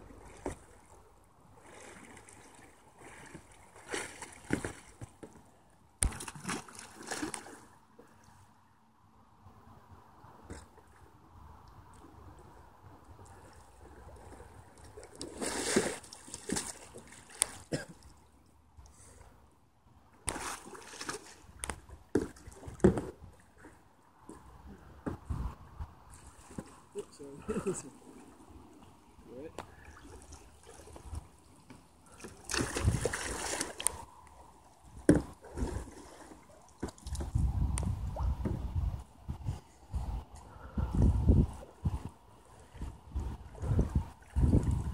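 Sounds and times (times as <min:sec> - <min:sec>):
water splashing around kayak: 0:00.0 - 0:08.5, 0:09.6 - 0:19.4, 0:20.1 - 0:44.9.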